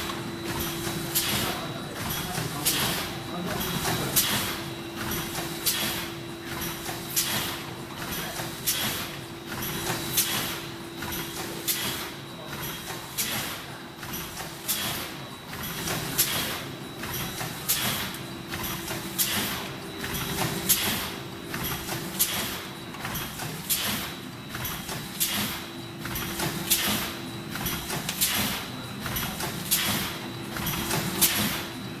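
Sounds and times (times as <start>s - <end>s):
packing machine clacking: 0.0s - 32.0s.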